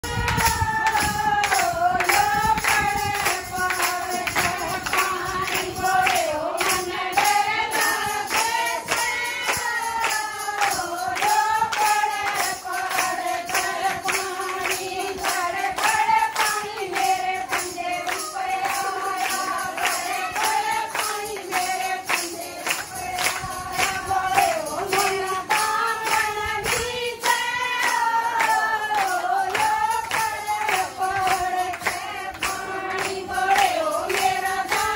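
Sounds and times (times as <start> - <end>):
hand-clapping: 0.0 - 34.9
percussion beat: 0.0 - 34.9
women singing devotional song: 0.0 - 34.9.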